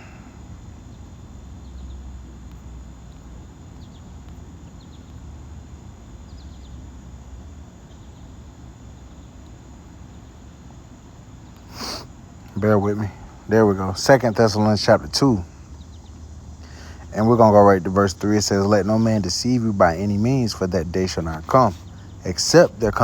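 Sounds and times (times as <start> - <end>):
insects chirping: 0.0 - 23.0
low background hum: 0.0 - 23.0.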